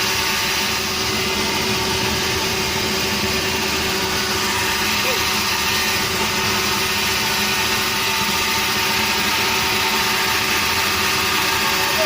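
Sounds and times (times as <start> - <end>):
sawmill machinery drone: 0.0 - 12.0.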